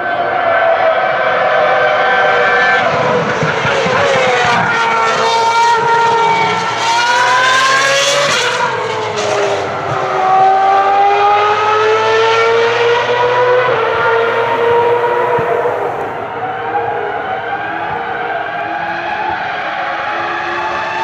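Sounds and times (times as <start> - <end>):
high-revving racing car engine: 0.2 - 21.0.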